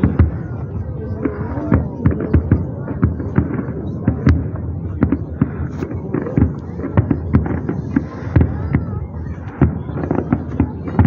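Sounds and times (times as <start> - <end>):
continuous rumble: 0.0 - 11.0.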